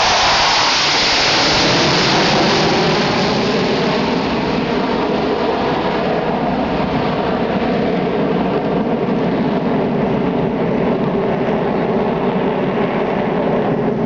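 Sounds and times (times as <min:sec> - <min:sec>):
jet fighters passing overhead: 0:00.0 - 0:14.0.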